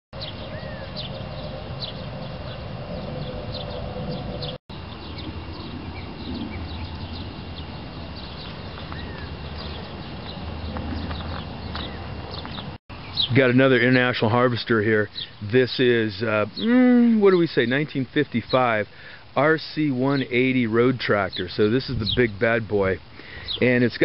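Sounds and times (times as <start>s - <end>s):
birds chirping: 0.2s - 24.0s
steady low hum: 0.2s - 24.0s.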